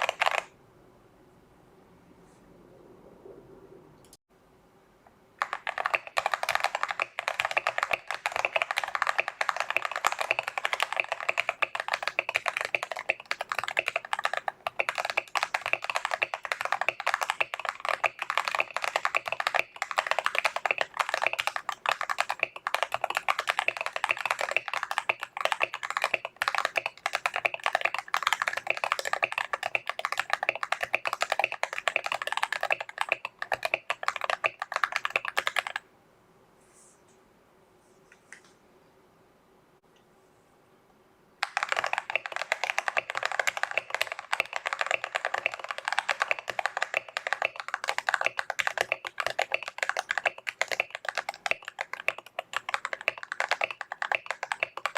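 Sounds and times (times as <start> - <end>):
fast mechanical keyboard typing: 0.0 - 0.5, 5.4 - 35.8, 41.4 - 54.9.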